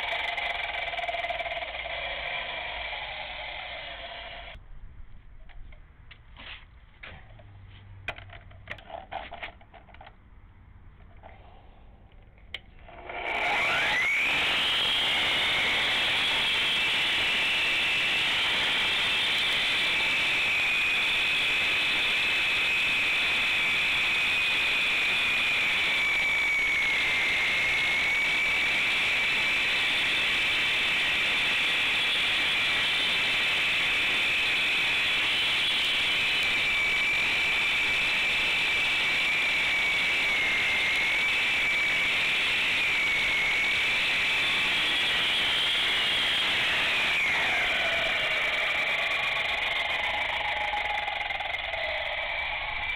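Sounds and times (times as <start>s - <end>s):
circular saw cutting concrete: 0.0s - 4.6s, 12.8s - 52.9s.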